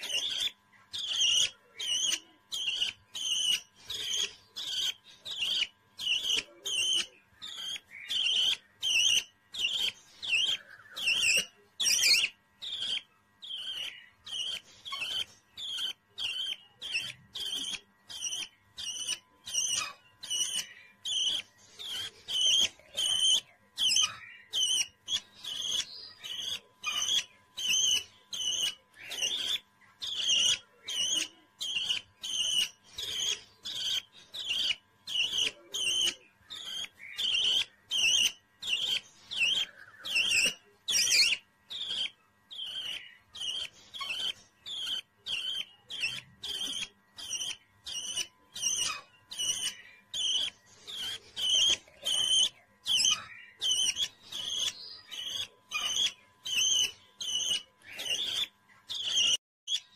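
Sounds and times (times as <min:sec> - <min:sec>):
baby budgerigar chirping: 0:00.0 - 0:59.9.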